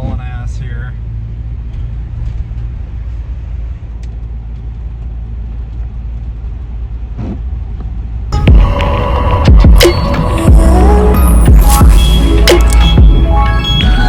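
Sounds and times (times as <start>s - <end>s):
tyre noise on road: 0.0s - 14.0s
van driving at highway speed: 0.0s - 14.0s.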